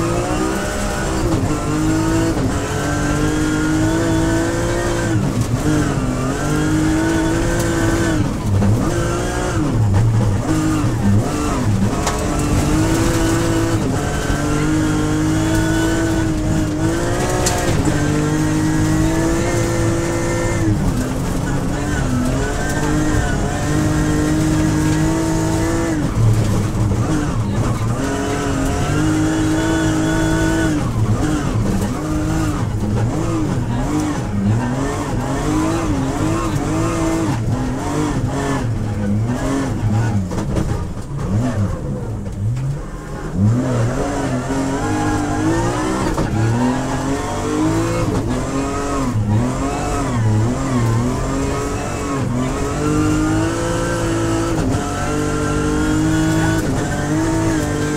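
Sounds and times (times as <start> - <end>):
rally car engine revving: 0.0 - 57.9.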